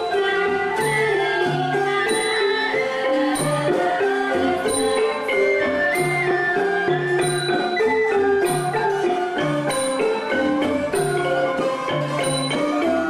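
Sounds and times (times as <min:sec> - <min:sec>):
mallet instrument melody: 0:00.0 - 0:13.0.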